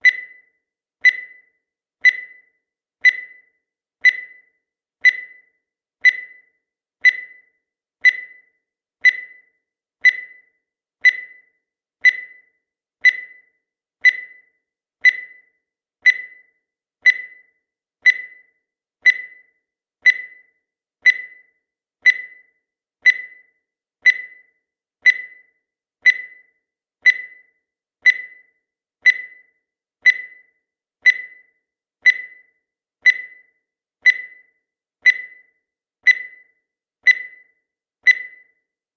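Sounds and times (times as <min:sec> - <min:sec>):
countdown timer ticks: 0:00.0 - 0:38.7.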